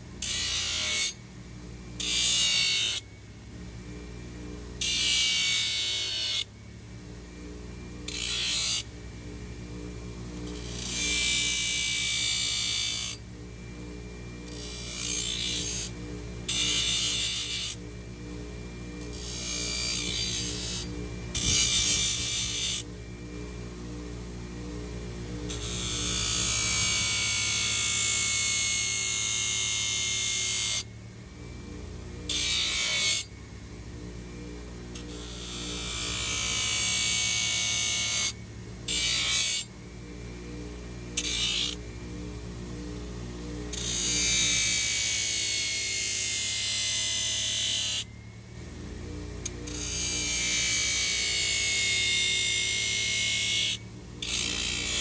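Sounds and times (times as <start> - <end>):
small power tool whining: 0.0 - 55.0.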